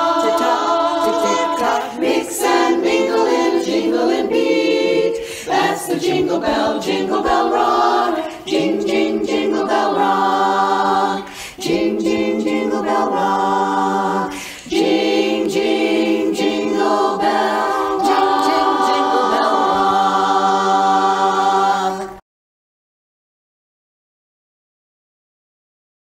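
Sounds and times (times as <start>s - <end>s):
women's chorus singing a cappella: 0.0s - 22.2s.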